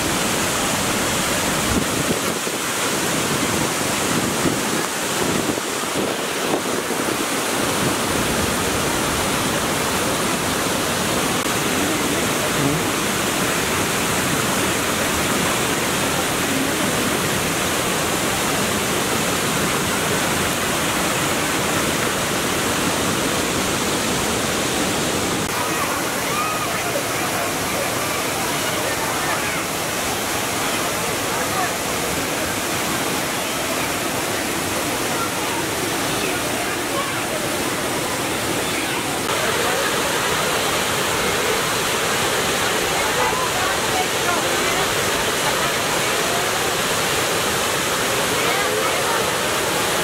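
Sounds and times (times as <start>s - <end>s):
waterfall rushing over rocks: 0.0s - 50.0s.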